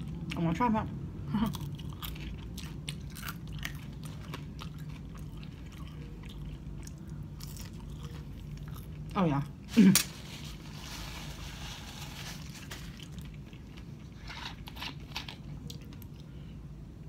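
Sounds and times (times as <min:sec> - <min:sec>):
chewing crisp fries: 0:00.0 - 0:09.7, 0:10.6 - 0:16.6.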